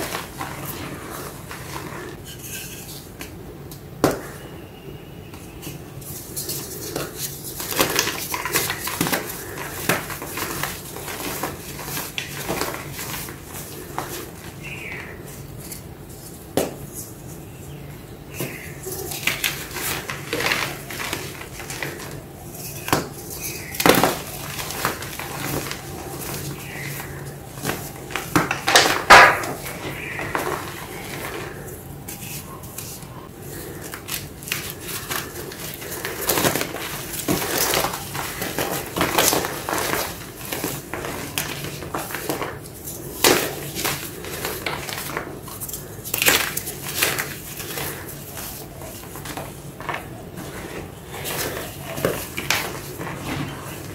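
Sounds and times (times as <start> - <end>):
chalk blocks crunching: 0.0 - 3.3, 5.4 - 17.7, 18.3 - 53.9.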